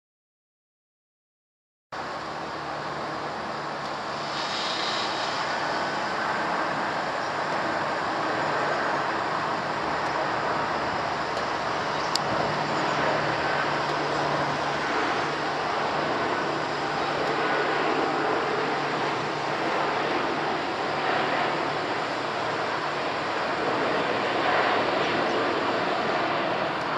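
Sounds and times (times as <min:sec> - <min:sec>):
jet airliner flying over: 0:02.0 - 0:26.9
street traffic: 0:02.0 - 0:26.9.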